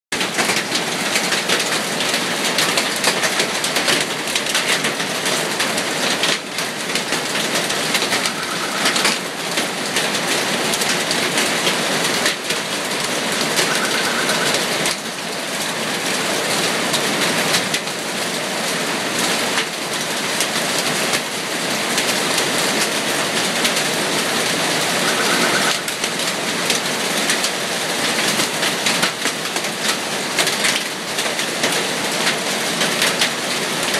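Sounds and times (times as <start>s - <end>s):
hail and heavy rain: 0.2s - 33.9s.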